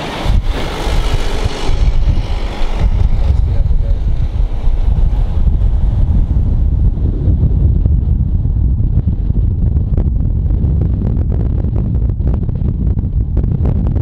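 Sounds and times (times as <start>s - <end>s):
car road noise: 0.0s - 14.0s
wind buffeting microphone: 0.0s - 14.0s.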